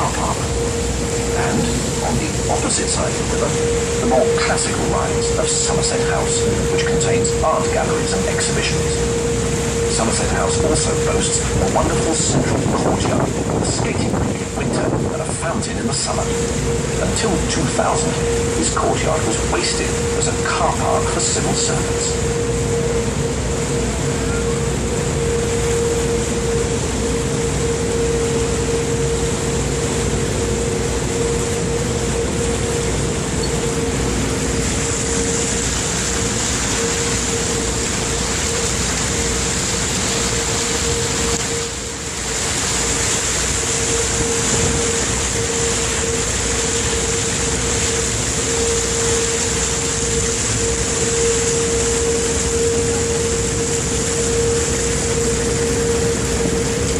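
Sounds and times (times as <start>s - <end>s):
boat engine hum: 0.0s - 56.9s
wind: 0.0s - 56.9s.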